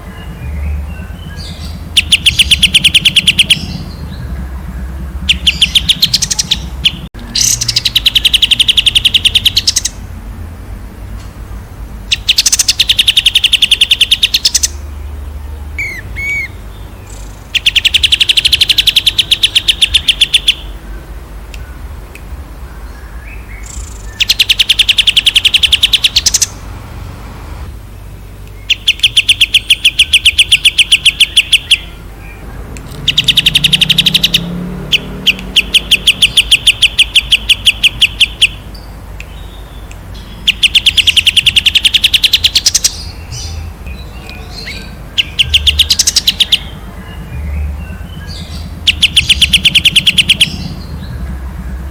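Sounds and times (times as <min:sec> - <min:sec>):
soft bird chirp: 0:00.0 - 0:10.0, 0:12.1 - 0:26.6, 0:27.8 - 0:51.9
songbird rattling trills: 0:01.0 - 0:10.0, 0:12.1 - 0:15.0, 0:15.8 - 0:20.8, 0:22.8 - 0:26.6, 0:28.0 - 0:51.9.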